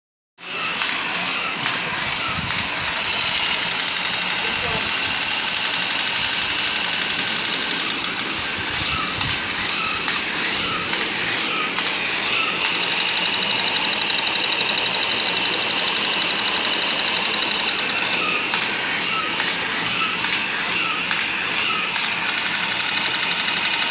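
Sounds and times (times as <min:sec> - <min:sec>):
toy motor and gears rattling: 0:00.4 - 0:23.9.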